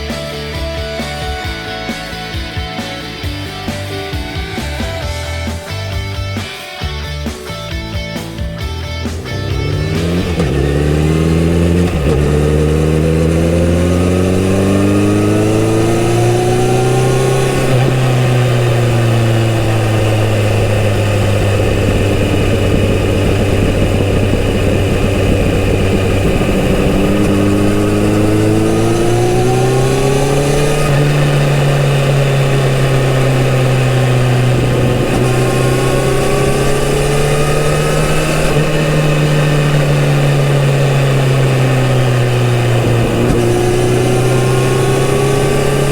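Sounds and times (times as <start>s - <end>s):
motorcycle engine revving: 0.0s - 6.4s, 8.2s - 45.9s.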